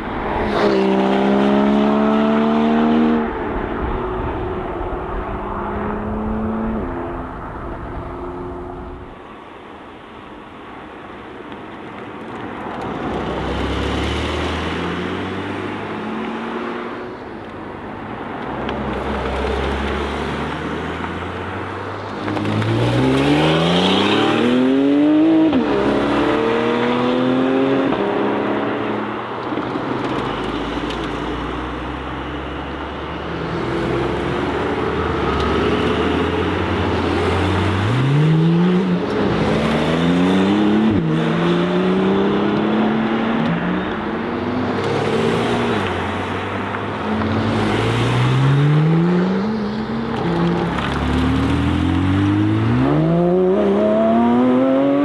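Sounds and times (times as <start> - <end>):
sports car engines accelerating hard: 0.0 - 9.2, 18.3 - 55.0.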